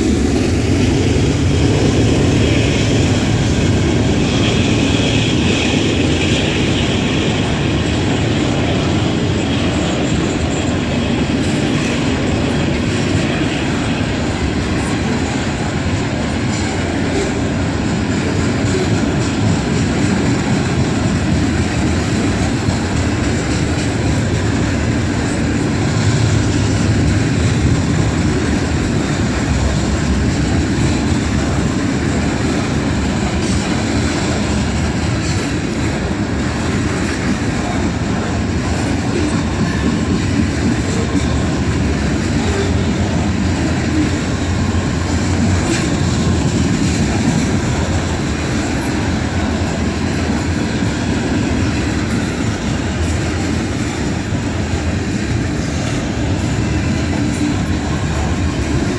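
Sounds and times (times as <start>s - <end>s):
clickety-clack over rail joints: 0.0s - 58.9s
freight train wheels on rail: 0.0s - 58.9s.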